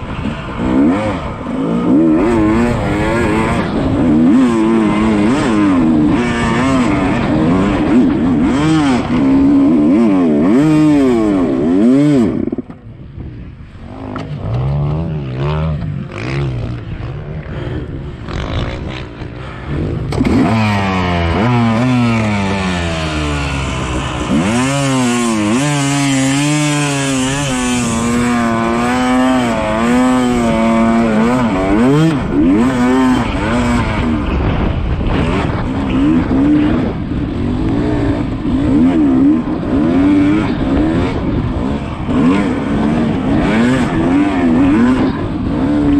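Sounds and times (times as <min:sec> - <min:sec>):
dirt bike engine revving: 0:00.0 - 0:12.8, 0:13.7 - 0:45.9.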